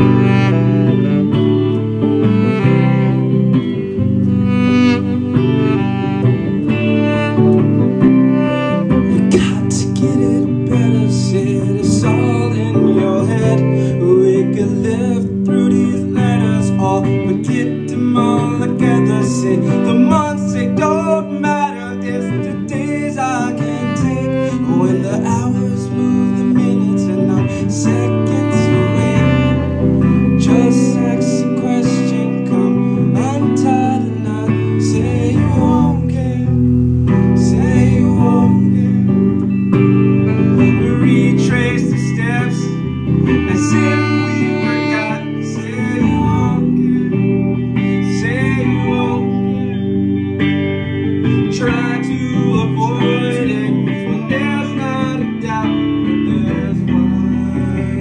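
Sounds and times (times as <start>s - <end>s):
guitar plucked and strummed: 0.0s - 58.0s
person singing: 0.0s - 58.0s.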